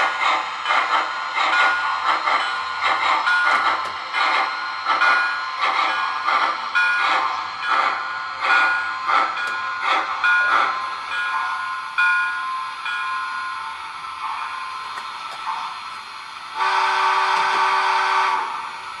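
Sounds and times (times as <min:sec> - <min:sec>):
recorded steam exhaust chuffs: 0:00.0 - 0:19.0.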